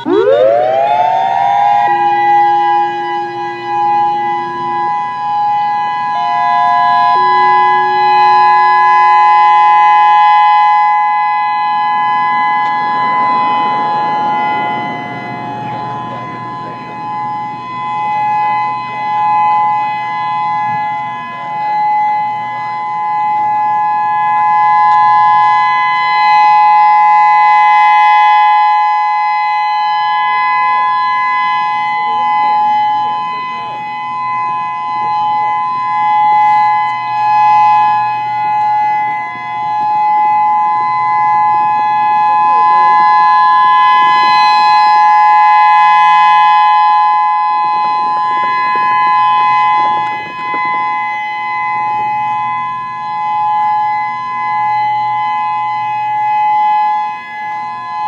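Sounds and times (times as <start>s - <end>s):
two-tone warning siren: 0.0s - 58.0s.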